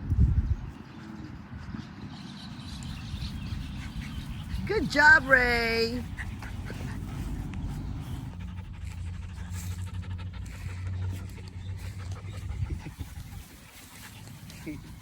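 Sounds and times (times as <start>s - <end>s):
steady low rumble: 2.7s - 15.0s
dog panting: 2.9s - 15.0s.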